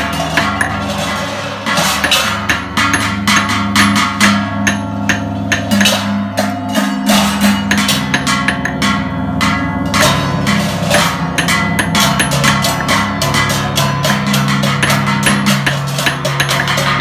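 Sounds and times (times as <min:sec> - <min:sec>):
deep gong tones humming: 0:00.0 - 0:17.0
sharp metallic strikes: 0:00.0 - 0:17.0.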